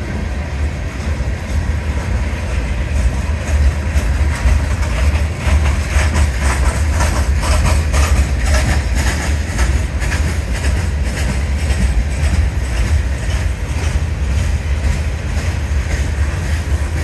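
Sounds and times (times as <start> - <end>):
freight train rumbling past: 0.0 - 17.0
train wheels clicking on rails: 0.0 - 17.0.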